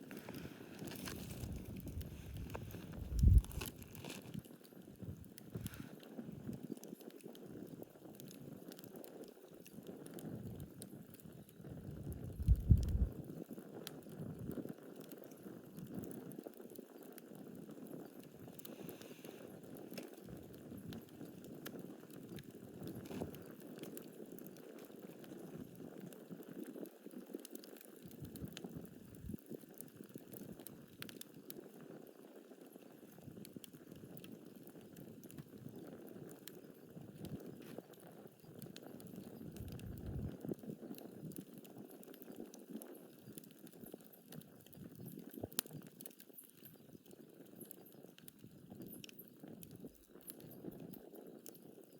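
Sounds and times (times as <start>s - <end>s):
campfire hiss: 0.0s - 51.2s
fire crackles and pops: 0.0s - 51.9s.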